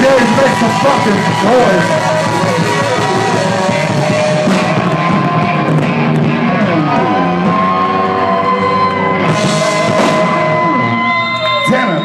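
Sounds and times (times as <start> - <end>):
drums: 0.0 - 12.0
electric guitar lead: 0.0 - 12.0.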